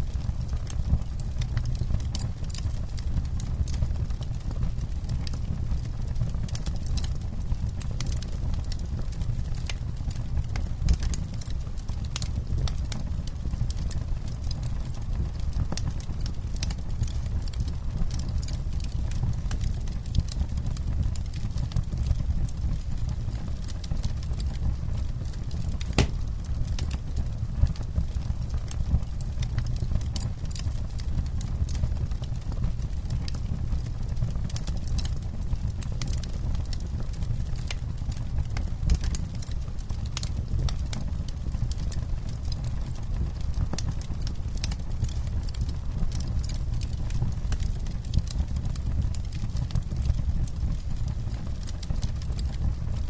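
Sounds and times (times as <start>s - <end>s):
campfire crackling and popping: 0.1s - 53.0s.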